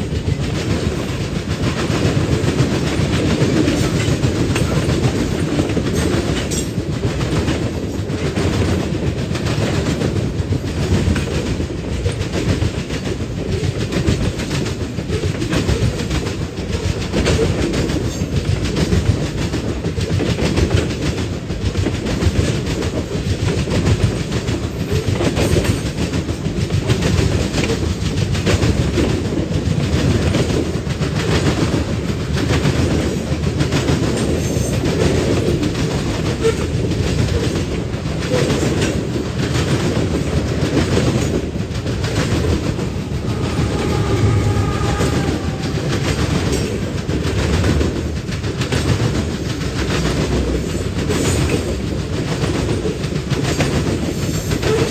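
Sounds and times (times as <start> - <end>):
steel wheels rumbling on rail: 0.0 - 54.9
wheels clicking over rail joints: 0.0 - 54.9.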